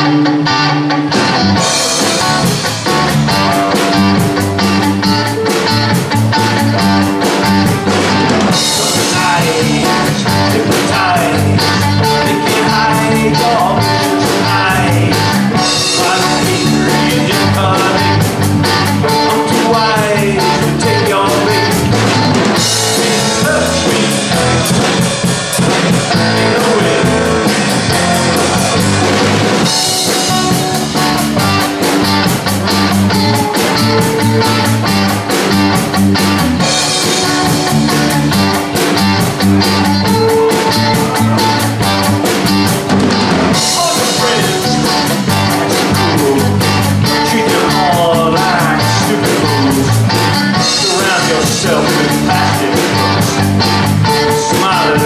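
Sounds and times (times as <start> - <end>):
electric bass: 0.0 - 55.0
electric guitars: 0.0 - 55.0
drums and cymbals: 1.0 - 55.0.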